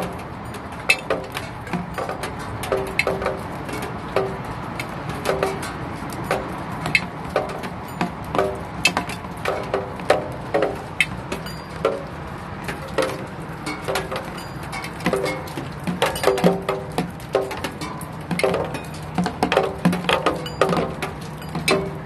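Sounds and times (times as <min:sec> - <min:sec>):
raindrops knocking on hard objects: 0:00.0 - 0:22.0.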